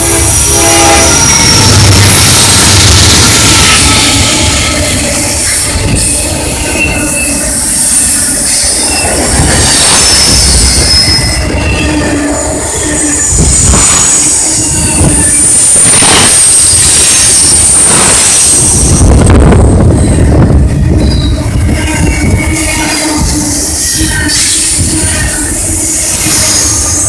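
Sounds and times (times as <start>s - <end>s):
freight train rumbling past: 0.0s - 27.0s
train wheel squeal: 0.0s - 27.0s.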